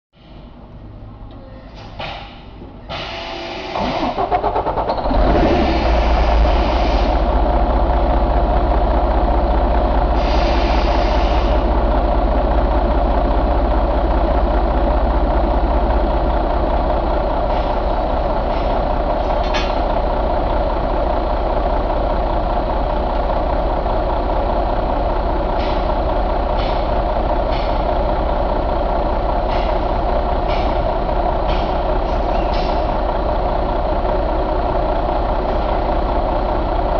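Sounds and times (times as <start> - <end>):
diesel engine starting and idling: 0.2 - 36.9.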